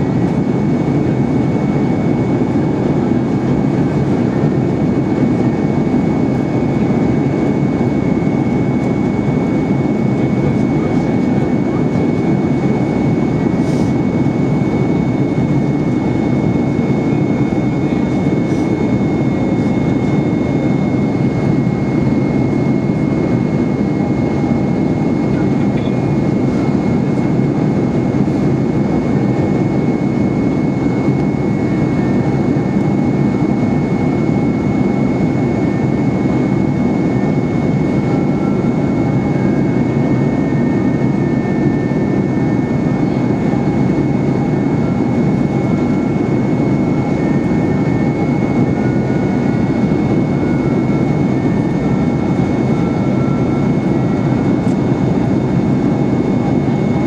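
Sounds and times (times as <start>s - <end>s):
airplane cabin roar: 0.0s - 57.0s.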